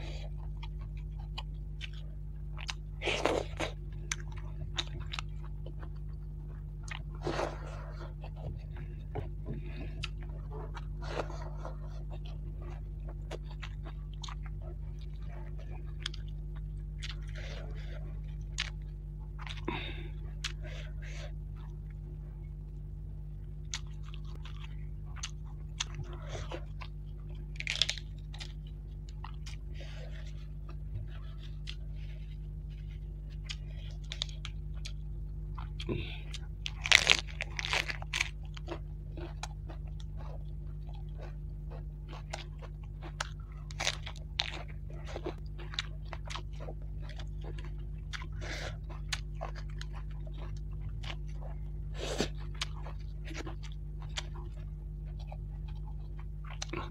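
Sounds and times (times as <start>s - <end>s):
chewing and crunching fish: 0.0s - 56.9s
steady low hum: 0.0s - 56.9s.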